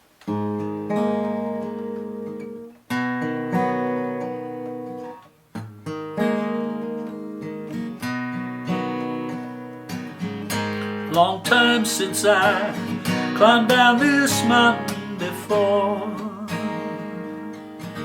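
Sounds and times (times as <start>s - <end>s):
acoustic guitar strumming chords: 0.2s - 18.0s.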